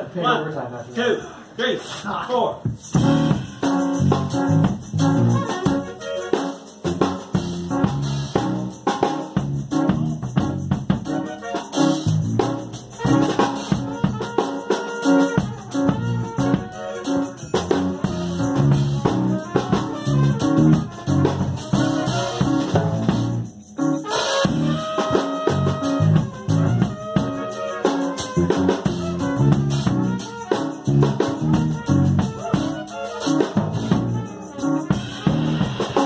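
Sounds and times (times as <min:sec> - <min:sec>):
drum kit hits: 0:02.7 - 0:36.0
jazz big band playing: 0:02.8 - 0:36.0.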